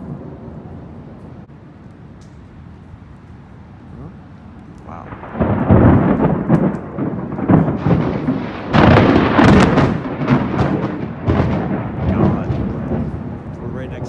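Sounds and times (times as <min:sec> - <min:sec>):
close thunder crackling and rolling: 0:00.0 - 0:14.0.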